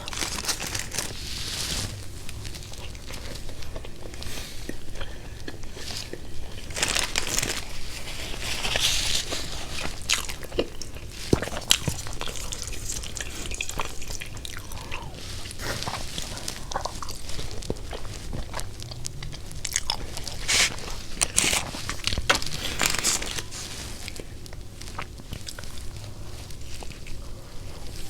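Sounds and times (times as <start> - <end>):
crunchy bites and chewing: 0.0 - 28.0
food packaging crinkling: 0.0 - 28.0.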